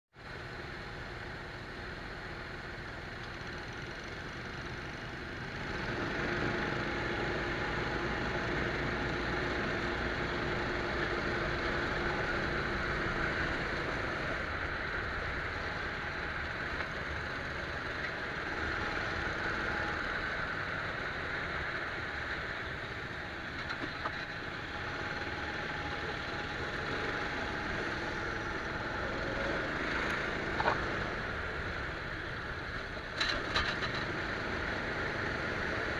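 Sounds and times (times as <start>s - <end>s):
go-kart engine running: 0.3s - 35.9s.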